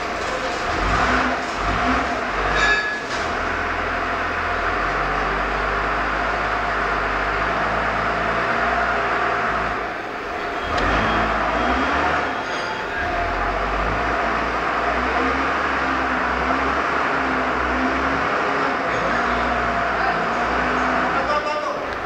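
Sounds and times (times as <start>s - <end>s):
forklift diesel engine running: 0.0s - 22.0s.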